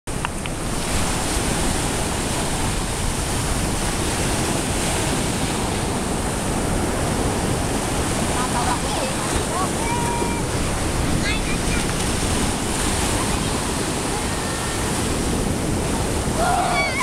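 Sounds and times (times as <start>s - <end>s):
ocean surf breaking: 0.1s - 17.0s.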